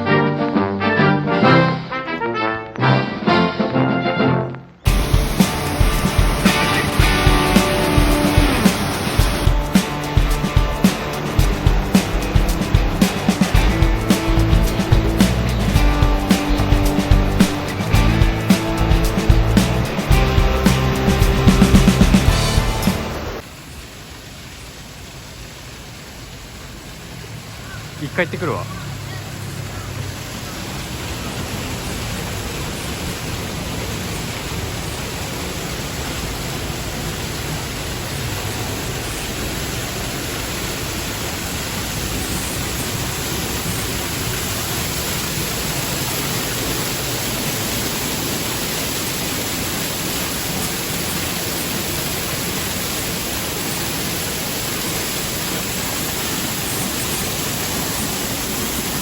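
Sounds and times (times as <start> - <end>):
waterfall roaring: 4.9 - 59.0.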